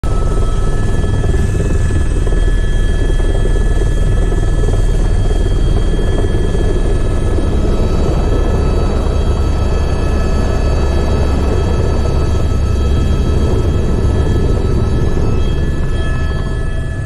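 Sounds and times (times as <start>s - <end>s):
helicopter rotor beat: 0.0s - 17.0s
turbine whine: 0.0s - 17.0s.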